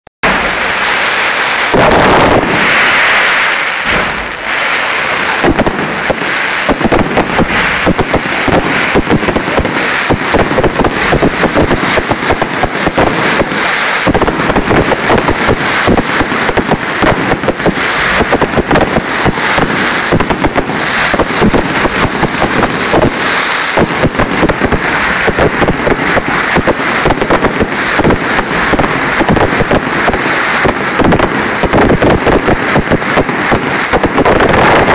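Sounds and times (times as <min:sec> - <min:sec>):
fireworks bangs and crackling: 0:00.2 - 0:34.9.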